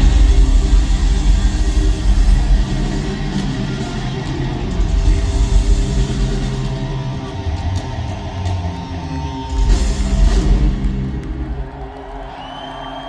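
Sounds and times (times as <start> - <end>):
hard rock band playing: 0.0 - 11.9.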